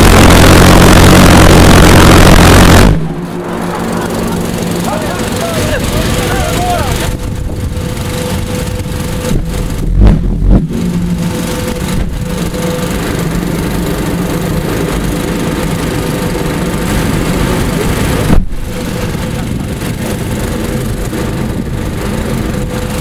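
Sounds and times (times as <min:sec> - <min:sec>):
pulse jet engine rushing: 0:00.0 - 0:23.0.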